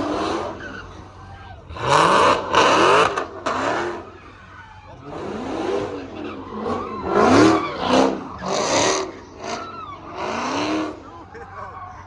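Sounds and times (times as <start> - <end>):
car engine revving: 0.0 - 1.1, 1.7 - 4.3, 4.9 - 11.2.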